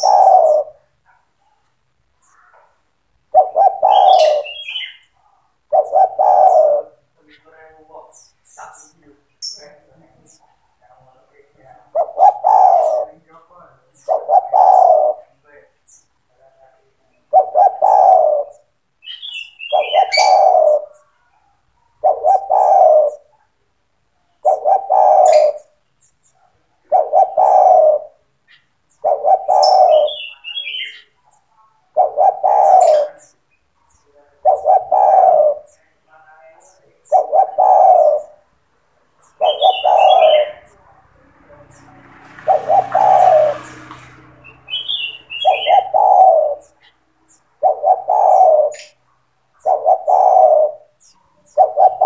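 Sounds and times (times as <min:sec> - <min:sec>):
dove cooing: 0:00.0 - 0:15.5, 0:17.0 - 0:52.0.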